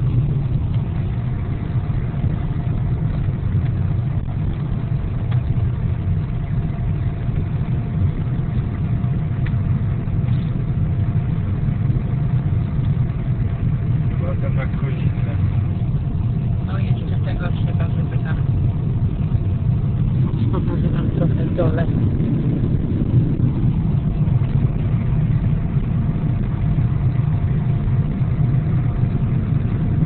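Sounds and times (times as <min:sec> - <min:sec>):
car engine and road rumble: 0:00.0 - 0:30.0
faint steady whine: 0:00.0 - 0:30.0.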